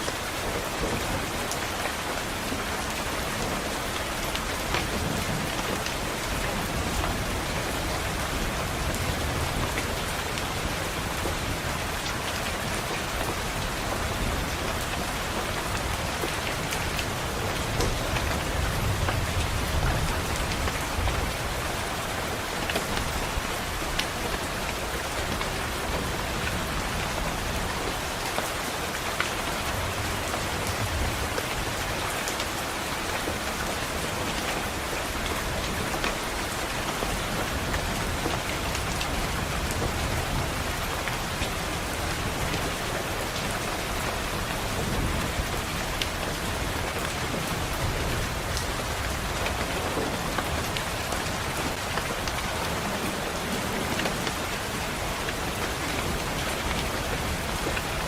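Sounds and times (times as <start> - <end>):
rain pattering on window glass: 0.1 - 58.0.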